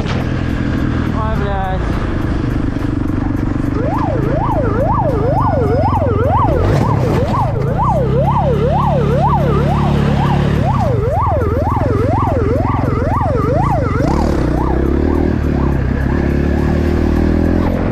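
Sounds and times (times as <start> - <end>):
vehicle engine running: 0.0 - 17.9
emergency siren yelping: 2.6 - 17.8.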